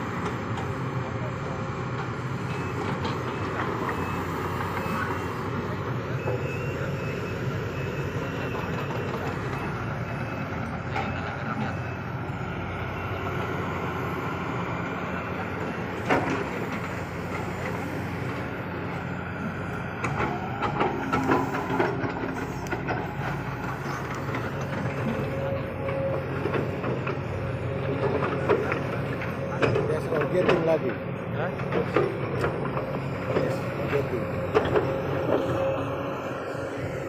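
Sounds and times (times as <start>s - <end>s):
excavator diesel engines running: 0.0s - 37.0s.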